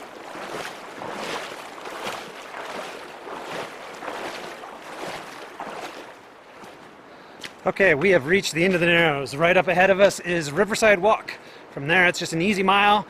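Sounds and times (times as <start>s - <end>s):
footsteps splashing through shallow water: 0.0s - 11.0s
rushing river water: 0.0s - 13.0s.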